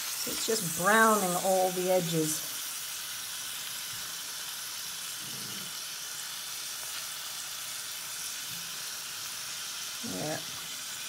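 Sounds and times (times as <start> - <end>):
meat sizzling in butter: 0.0 - 11.0.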